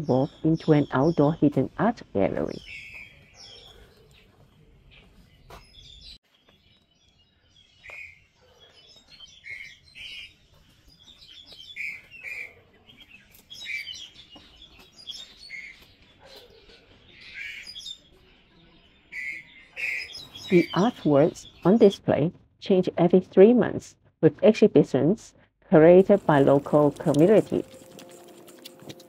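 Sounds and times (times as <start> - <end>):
birds chirping: 0.0 - 22.2, 26.0 - 29.0.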